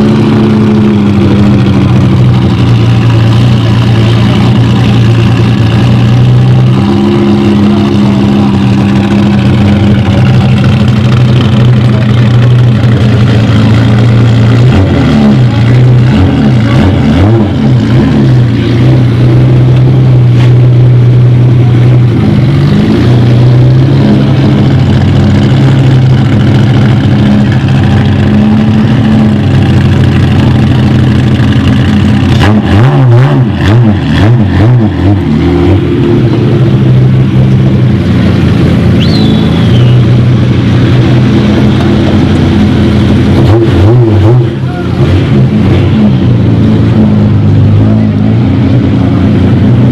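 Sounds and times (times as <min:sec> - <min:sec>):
sports car engine idling and revving: 0:00.0 - 0:49.9.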